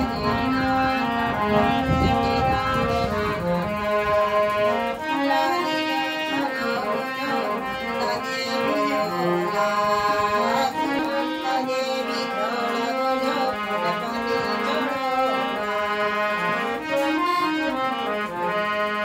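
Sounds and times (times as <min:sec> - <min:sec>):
harmonium melody: 0:00.0 - 0:19.0.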